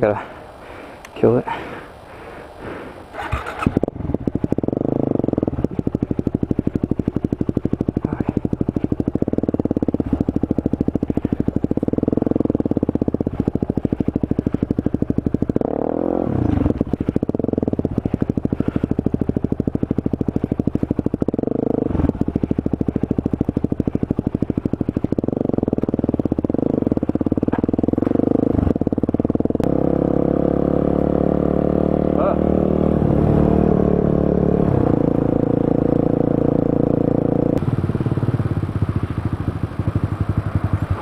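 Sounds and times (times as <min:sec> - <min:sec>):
motorcycle engine running: 0:03.1 - 0:41.0.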